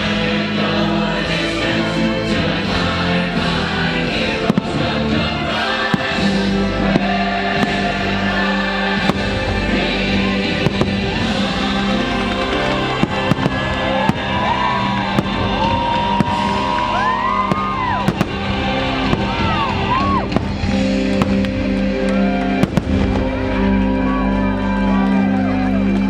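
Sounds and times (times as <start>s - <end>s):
loud show music: 0.0s - 26.0s
fireworks bangs and cracks: 3.3s - 24.7s.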